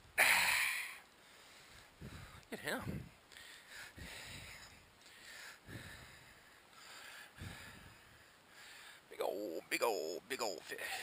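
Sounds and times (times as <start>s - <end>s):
short noisy breaths: 0.2s - 9.1s.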